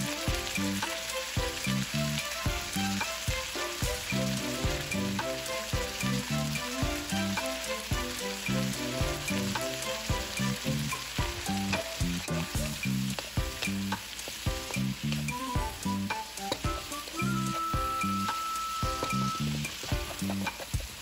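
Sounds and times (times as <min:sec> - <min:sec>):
background music with low notes: 0:00.0 - 0:21.0
vegetables sizzling in a wok: 0:00.0 - 0:21.0.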